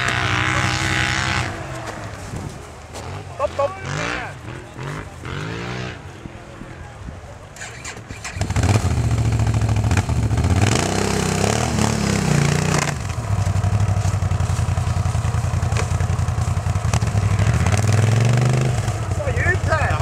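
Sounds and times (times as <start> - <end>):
atv engines revving: 0.0 - 20.0.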